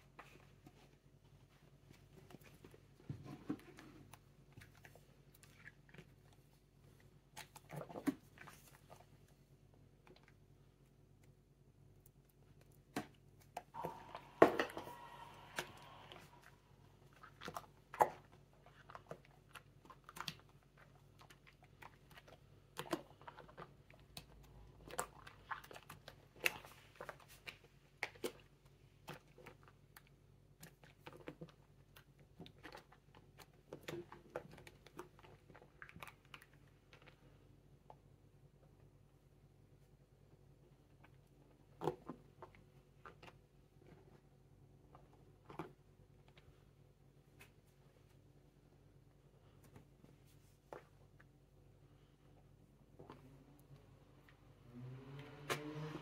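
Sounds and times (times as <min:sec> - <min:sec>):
wet slime squelching: 0:00.0 - 0:56.0.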